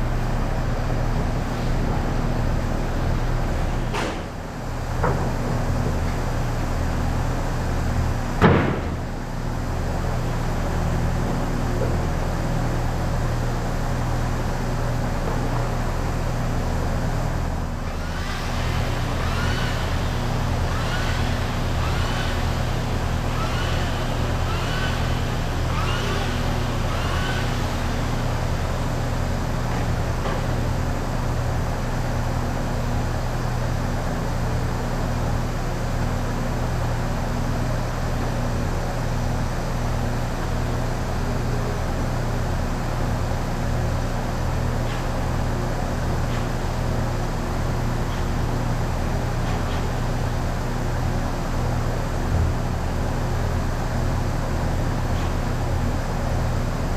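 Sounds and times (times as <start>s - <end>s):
low mechanical drone: 0.0s - 56.9s.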